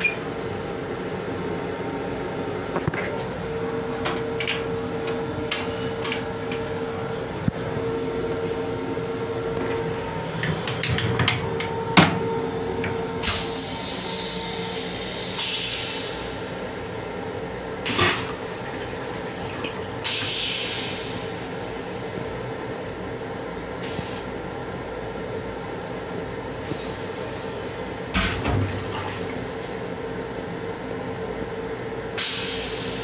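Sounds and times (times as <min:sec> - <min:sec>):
toilet flushing water and air: 0:00.0 - 0:24.8, 0:26.2 - 0:33.0
moving train rumble: 0:00.0 - 0:28.2.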